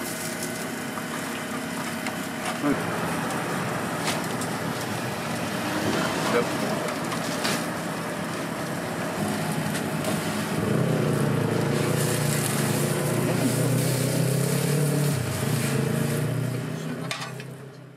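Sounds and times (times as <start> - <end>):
engine humming: 0.0 - 17.9
street noise: 0.0 - 17.9.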